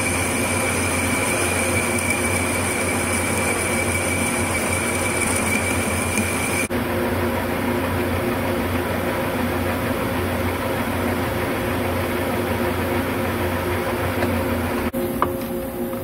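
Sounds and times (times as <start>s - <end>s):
lathe machine hum: 0.0s - 15.9s.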